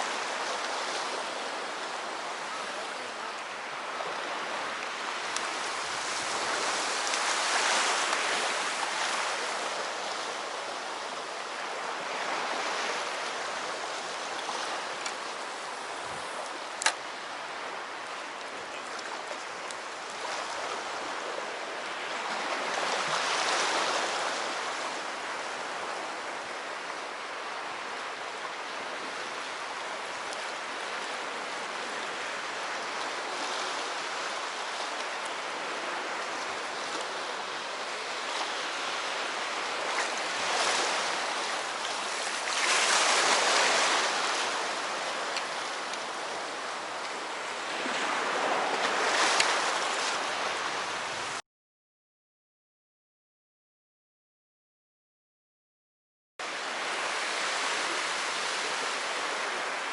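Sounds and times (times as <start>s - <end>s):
sea waves on shore: 0.0s - 51.4s, 56.4s - 59.9s.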